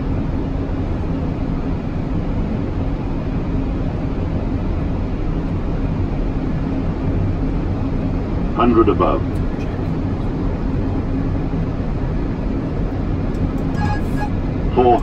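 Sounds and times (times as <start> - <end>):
low even hum: 0.0 - 15.0.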